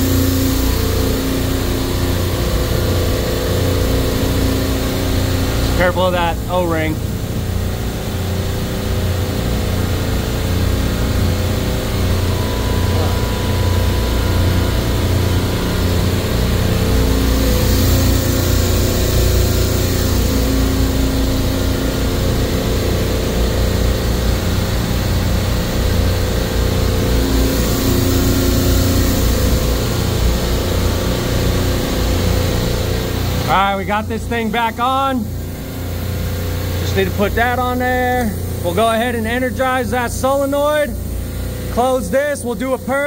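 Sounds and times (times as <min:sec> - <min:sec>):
steady tones: 0:00.0 - 0:08.4, 0:09.2 - 0:43.0
refrigeration compressor drone: 0:00.0 - 0:43.0.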